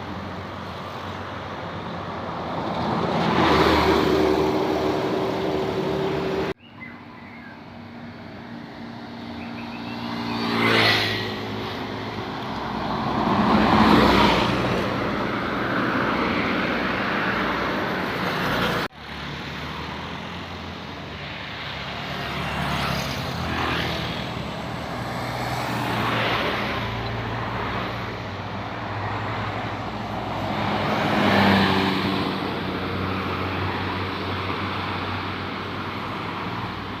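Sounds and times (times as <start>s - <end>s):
buses and traffic passing: 0.0s - 37.0s.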